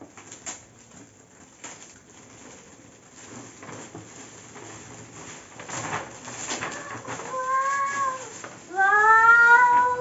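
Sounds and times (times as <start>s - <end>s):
foil gift wrap crinkling: 0.0s - 10.0s.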